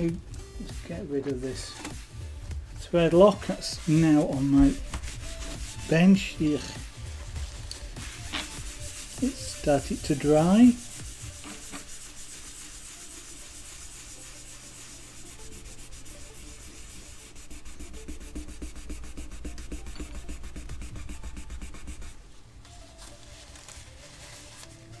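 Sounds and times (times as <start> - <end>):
tissue rubbing on wooden desk: 0.6 - 25.0.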